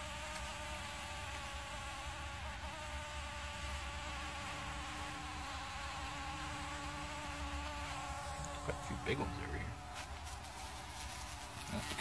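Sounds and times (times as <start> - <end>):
bumblebees buzzing: 0.0 - 12.0.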